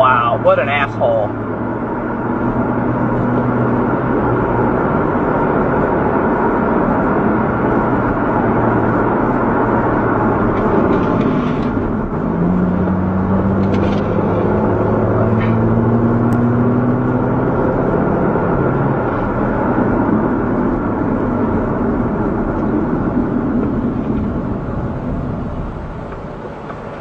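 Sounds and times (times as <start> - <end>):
car engine hum: 0.0 - 27.0
road rumble: 0.0 - 27.0.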